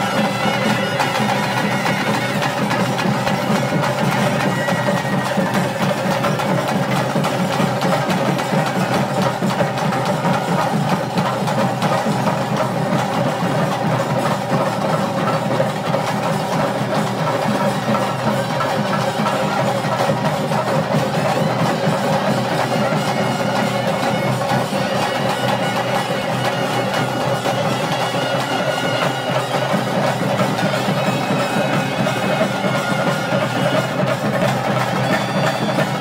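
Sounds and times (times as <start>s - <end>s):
drums beating: 0.0s - 36.0s.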